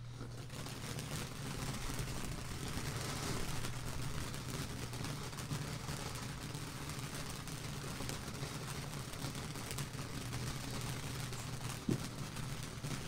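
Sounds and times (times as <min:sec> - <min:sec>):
firework hissing and crackling: 0:00.0 - 0:13.0.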